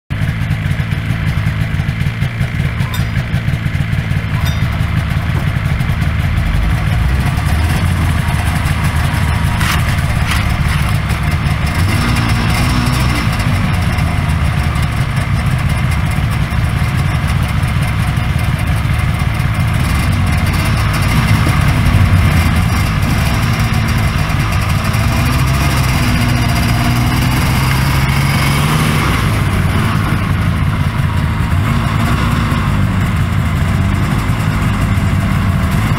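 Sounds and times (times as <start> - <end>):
snowmobile engine idling: 0.1 - 35.9.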